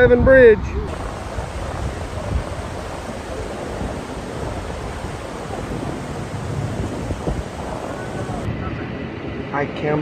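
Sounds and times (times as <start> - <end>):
floodwater rushing: 0.9 - 9.5.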